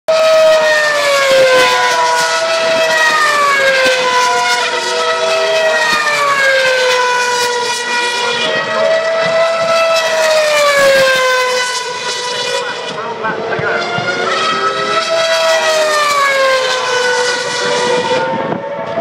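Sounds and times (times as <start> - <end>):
racing cars passing at high revs: 0.1 - 19.0.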